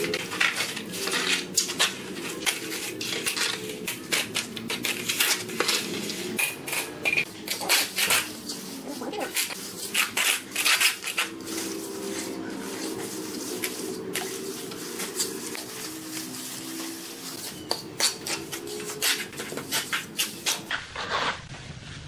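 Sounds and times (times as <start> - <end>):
float scraping wet cement: 0.0 - 22.0.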